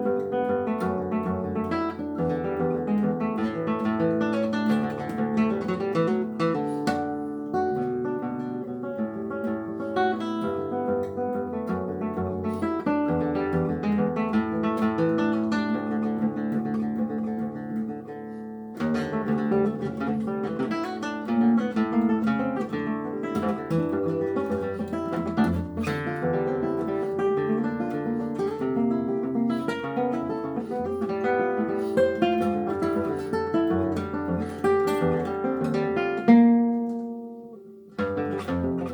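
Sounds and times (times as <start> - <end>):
fingerpicked acoustic guitar: 0.0 - 38.9.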